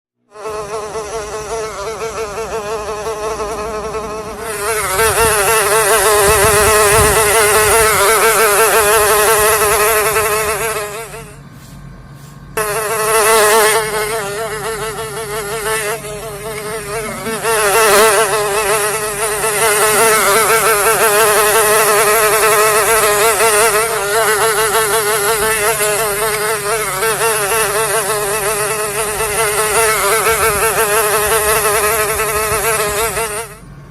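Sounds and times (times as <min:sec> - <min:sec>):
houseflies buzzing: 0:00.3 - 0:11.4, 0:12.6 - 0:33.7.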